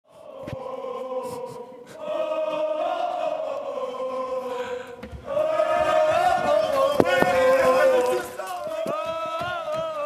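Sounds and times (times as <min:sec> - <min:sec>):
group of voices chanting: 0:00.1 - 0:09.8.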